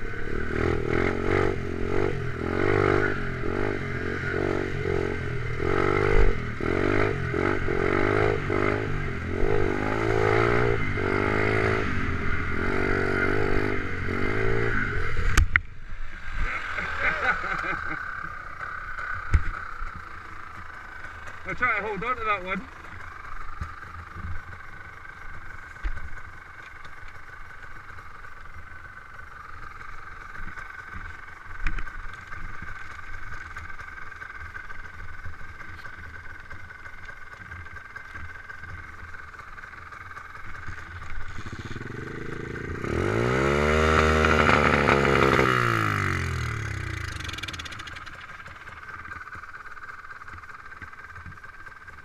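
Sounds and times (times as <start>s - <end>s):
motorbike engine idling and revving: 0.0s - 52.0s.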